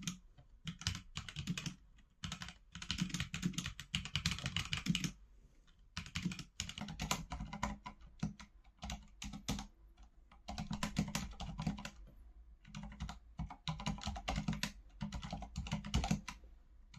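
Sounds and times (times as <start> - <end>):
typing on mechanical keyboard: 0.0 - 5.2, 5.9 - 12.0, 12.6 - 16.4.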